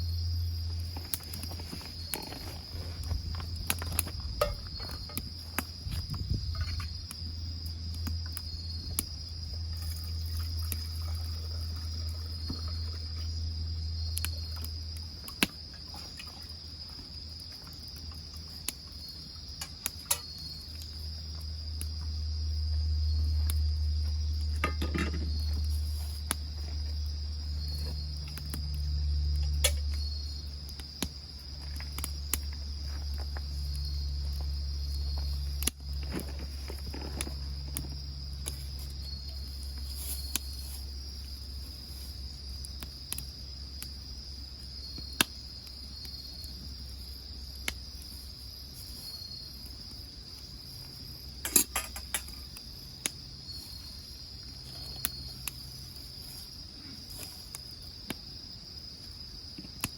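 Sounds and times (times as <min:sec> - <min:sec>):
crickets trilling: 0:00.0 - 0:59.9
wood fire snapping and popping: 0:00.5 - 0:48.8, 0:49.5 - 0:59.9.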